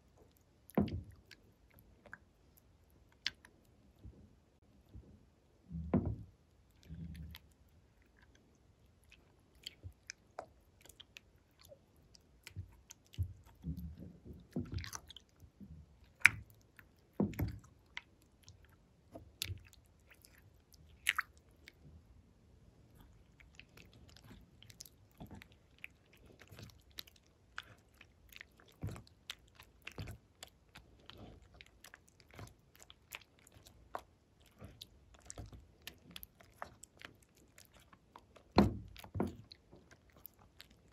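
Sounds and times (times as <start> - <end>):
slime stirred with spatula: 0.0 - 4.0, 6.0 - 21.8, 22.8 - 40.9.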